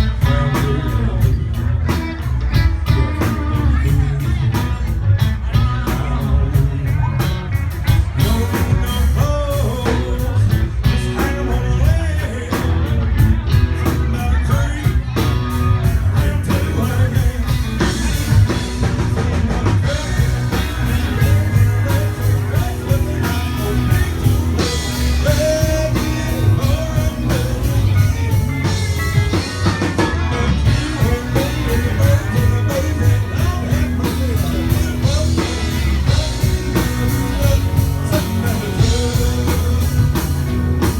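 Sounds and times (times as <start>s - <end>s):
country-rock band playing: 0.0s - 40.9s.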